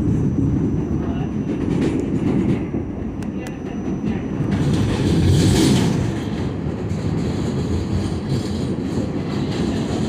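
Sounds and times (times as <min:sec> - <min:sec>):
subway car wheels rumbling on rails: 0:00.0 - 0:10.0.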